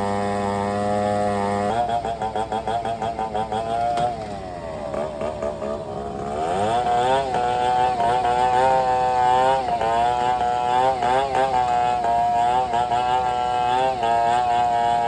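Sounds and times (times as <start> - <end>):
chainsaw running at high revs: 0.0 - 15.0.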